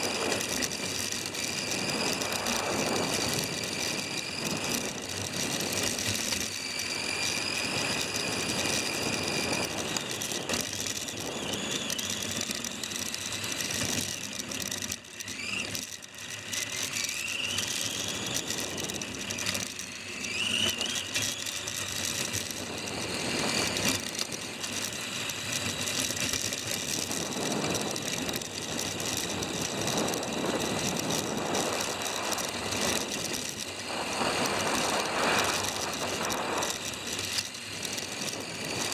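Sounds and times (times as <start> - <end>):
chassis and tyres rattling: 0.0 - 38.9
electric motor and gears whining: 0.0 - 38.9.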